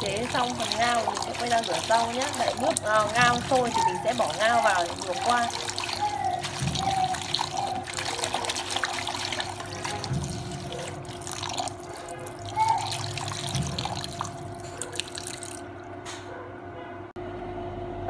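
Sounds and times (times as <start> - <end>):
wet leaves rustling: 0.0 - 15.6
water splashing and sloshing: 0.0 - 16.0.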